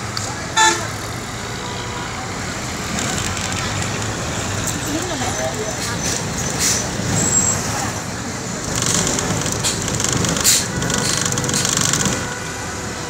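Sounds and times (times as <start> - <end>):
traffic noise from moving vehicle: 0.0 - 13.0.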